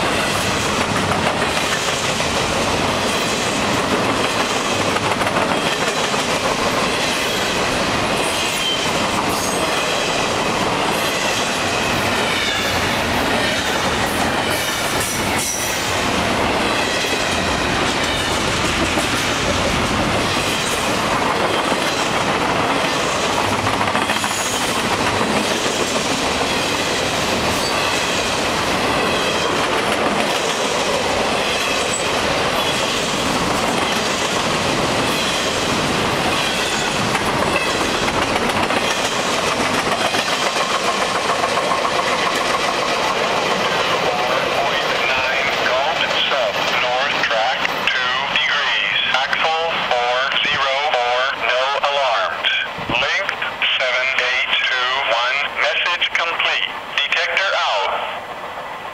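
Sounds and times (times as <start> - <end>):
steel wheels clattering on rails: 0.0 - 47.9
freight train rolling past: 0.0 - 58.9.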